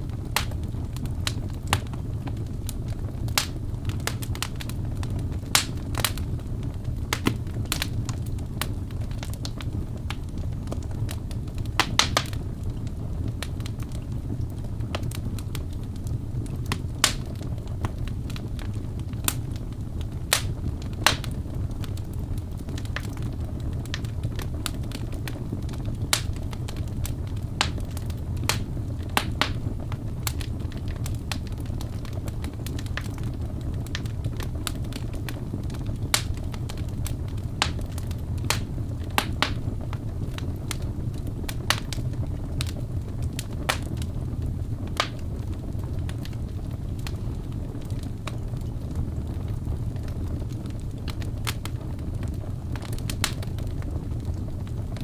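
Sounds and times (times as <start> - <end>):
wood crackling and popping: 0.0 - 55.0
wood fire rumbling: 0.0 - 55.0.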